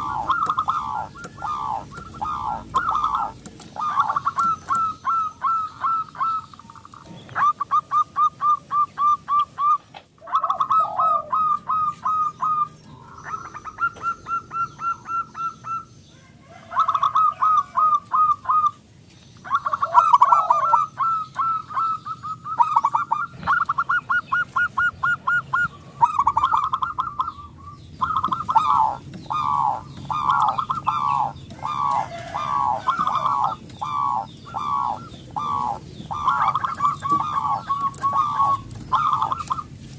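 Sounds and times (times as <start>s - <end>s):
dove cooing: 0.0s - 18.8s, 19.4s - 39.9s.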